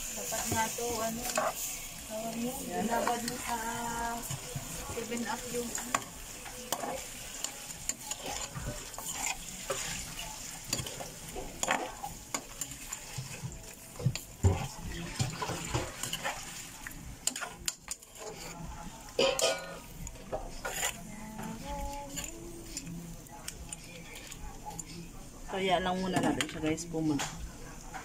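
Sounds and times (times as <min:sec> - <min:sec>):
metal spoon scraping a pot: 0:00.0 - 0:16.5, 0:17.2 - 0:18.6, 0:19.3 - 0:24.4
light sizzle of frying: 0:00.0 - 0:28.0.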